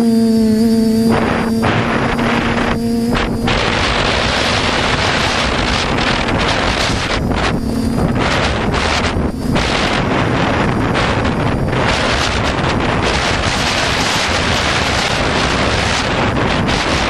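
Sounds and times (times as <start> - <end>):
drone motors humming: 0.0 - 17.0
heavy wind rushing: 1.0 - 17.0.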